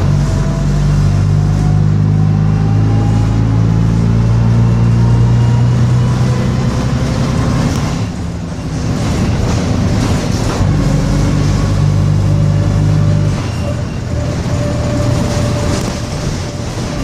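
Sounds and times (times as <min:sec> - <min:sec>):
bus engine running under load: 0:00.0 - 0:17.0.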